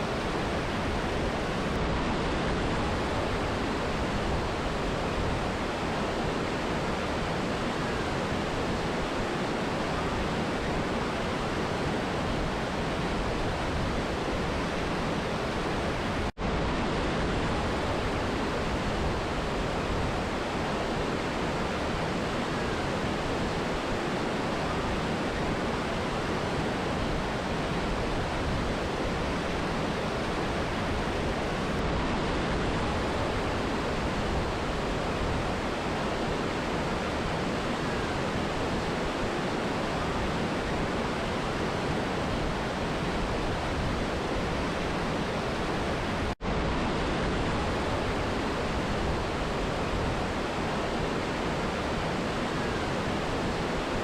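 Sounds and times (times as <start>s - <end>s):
river and waterfall rushing: 0.0s - 54.0s.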